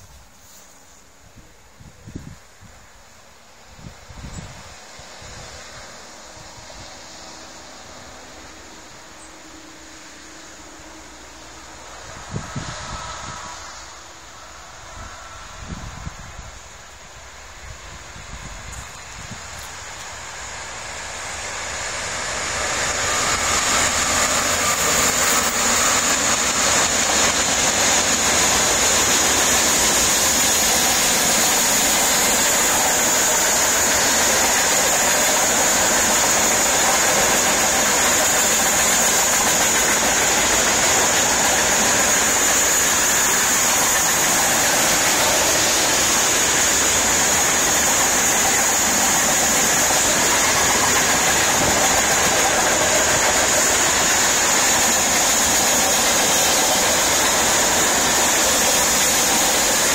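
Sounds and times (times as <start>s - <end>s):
train wheel and rail noise: 0.0s - 59.9s.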